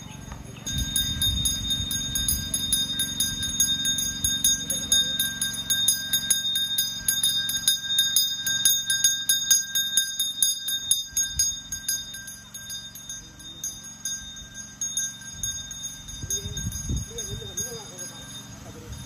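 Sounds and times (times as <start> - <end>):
hand bell ringing rapidly: 0.0 - 19.0.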